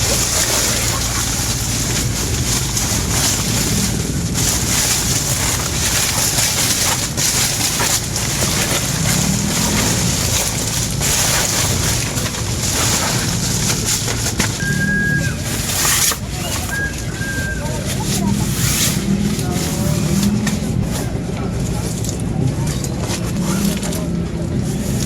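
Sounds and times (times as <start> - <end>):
water washing against shore: 0.0 - 21.2.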